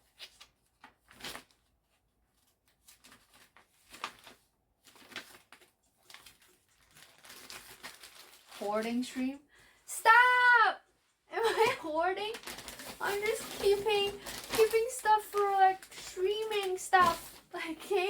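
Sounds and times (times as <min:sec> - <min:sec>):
rustling of handled items: 0:00.0 - 0:18.0.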